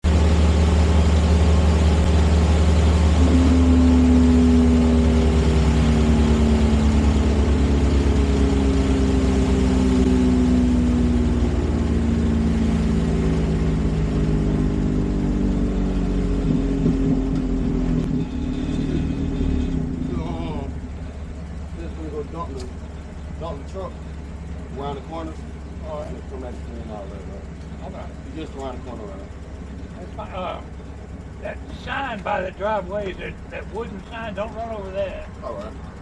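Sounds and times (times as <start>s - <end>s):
large engine running: 0.0s - 36.0s.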